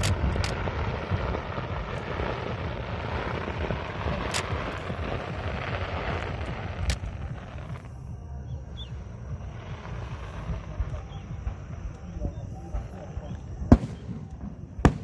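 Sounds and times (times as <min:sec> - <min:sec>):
sharp firework bangs: 0:00.0 - 0:07.9, 0:08.9 - 0:15.0
fireworks rumbling and crackling: 0:00.0 - 0:15.0.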